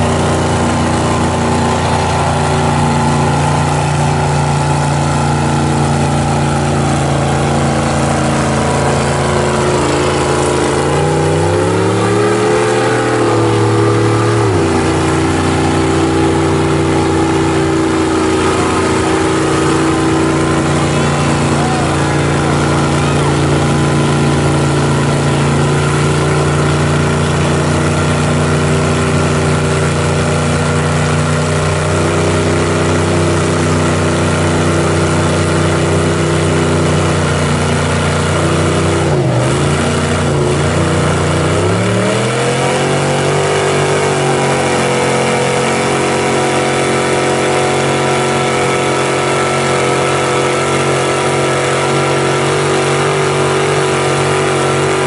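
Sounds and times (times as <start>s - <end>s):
truck engine running loud: 0.0s - 55.0s
tyres churning through mud: 0.0s - 55.0s.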